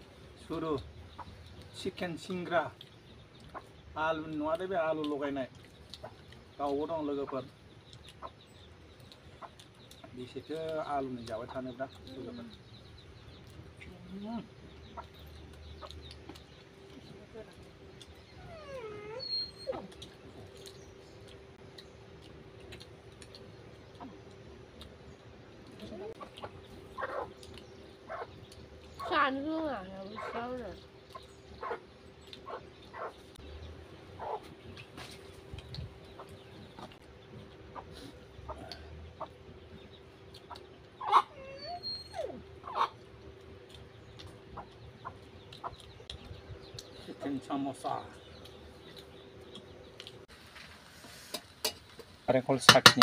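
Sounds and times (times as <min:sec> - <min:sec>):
faint chicken clucking: 0:00.0 - 0:50.3
steady low hum: 0:00.0 - 0:53.0.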